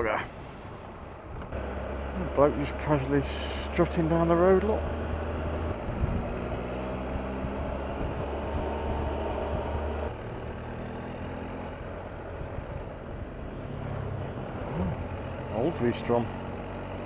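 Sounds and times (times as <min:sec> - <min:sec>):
road and wind noise: 0:00.0 - 0:17.0
motorcycle engine running: 0:01.5 - 0:17.0.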